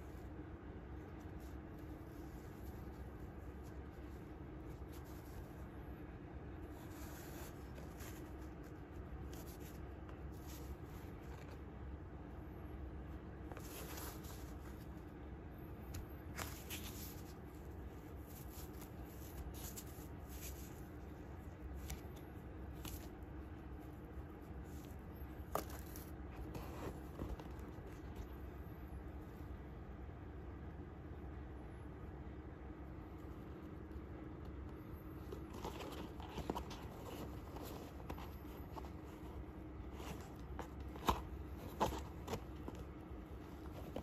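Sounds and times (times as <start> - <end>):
foam insole rustling and scraping: 0.0 - 29.6, 33.2 - 44.0
low steady hum: 0.0 - 44.0.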